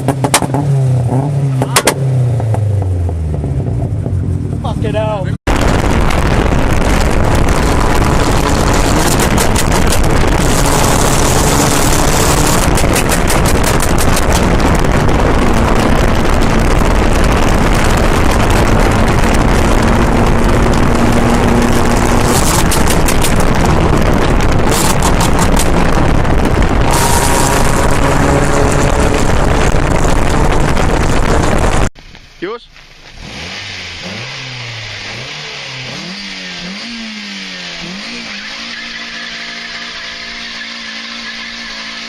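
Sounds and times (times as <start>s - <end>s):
car engine revving high: 0.0s - 31.9s, 33.2s - 42.0s
exhaust crackling: 0.0s - 42.0s.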